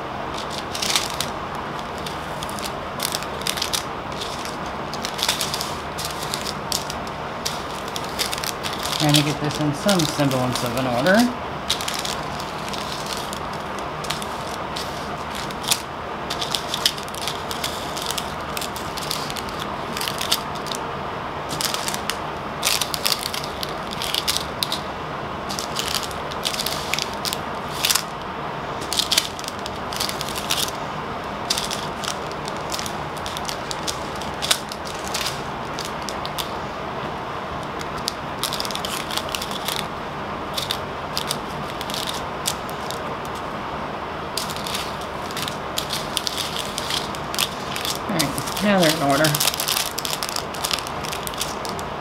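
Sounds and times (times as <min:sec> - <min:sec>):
plastic bags crinkling and rattling: 0:00.0 - 0:20.8, 0:21.5 - 0:24.9, 0:25.5 - 0:28.2, 0:28.8 - 0:36.6, 0:37.6 - 0:39.9, 0:40.5 - 0:43.5, 0:44.4 - 0:52.0
steady background hiss: 0:00.0 - 0:52.0.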